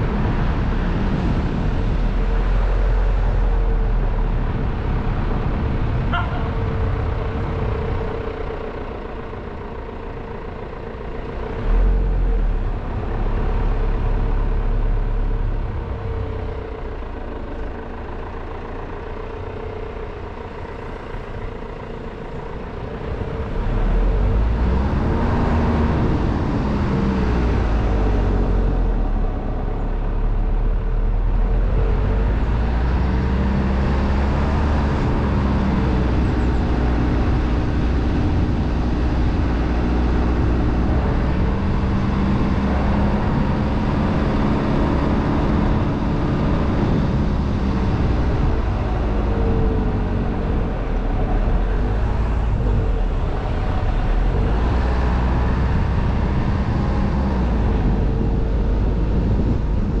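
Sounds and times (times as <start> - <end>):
car engine: 0.0 - 60.0
tyre noise on road: 0.0 - 60.0.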